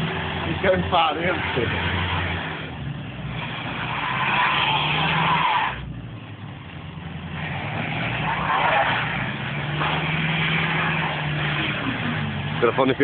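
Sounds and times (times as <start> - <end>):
tyres spinning on snow: 0.0 - 5.9, 6.7 - 13.0
lorry diesel engine revving: 0.0 - 13.0.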